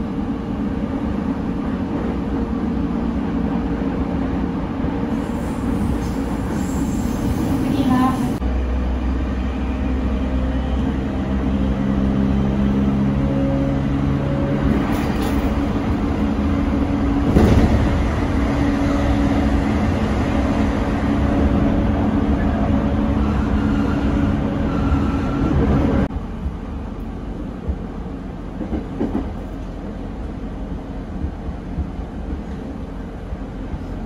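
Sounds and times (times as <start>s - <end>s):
train inverter whine: 0.0s - 34.0s
train wheels rumbling on rails: 0.0s - 34.0s.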